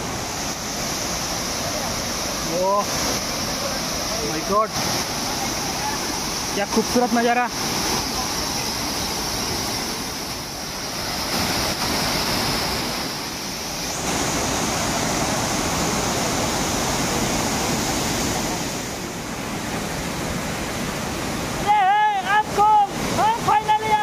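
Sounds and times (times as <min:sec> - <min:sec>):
waterfall rushing into a pool: 0:00.0 - 0:24.0.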